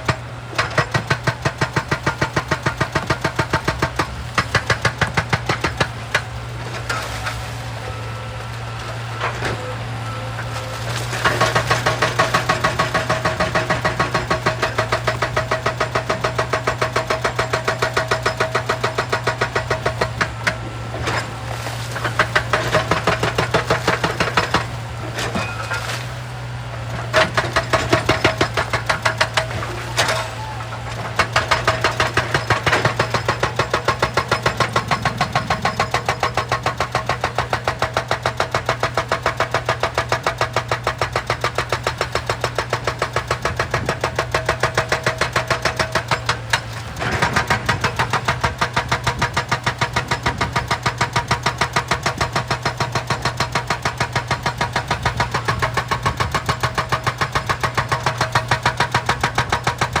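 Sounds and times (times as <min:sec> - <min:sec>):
diesel engine hum: 0:00.0 - 1:00.0
hydraulic rock breaker hammering: 0:00.0 - 1:00.0.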